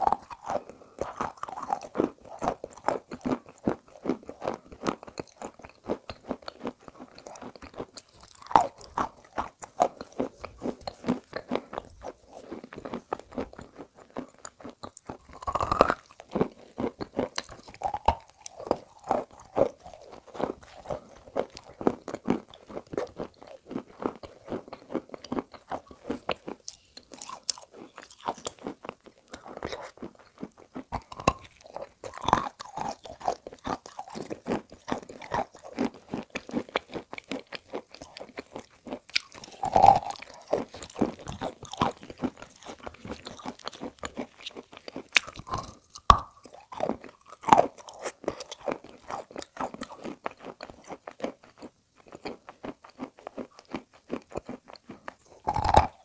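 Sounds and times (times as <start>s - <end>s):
crisp crunching bites: 0.0s - 56.0s.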